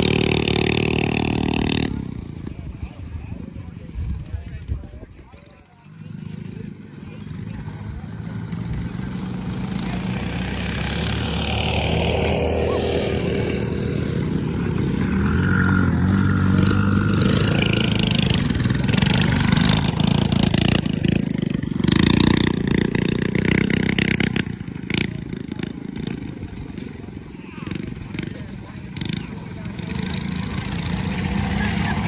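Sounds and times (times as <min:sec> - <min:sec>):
mini bike engines racing: 0:00.0 - 0:32.0.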